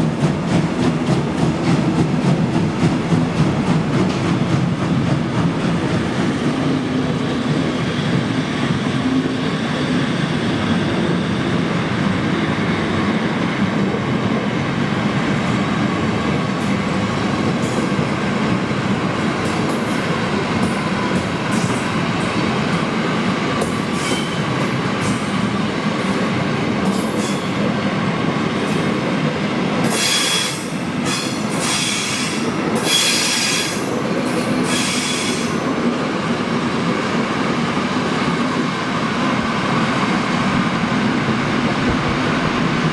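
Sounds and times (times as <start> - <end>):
train wheels rumbling and clicking: 0.0 - 42.9.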